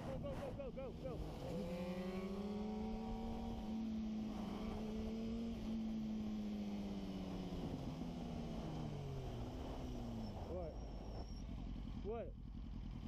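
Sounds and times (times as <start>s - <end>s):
motorcycle engine at speed: 0.0s - 13.0s.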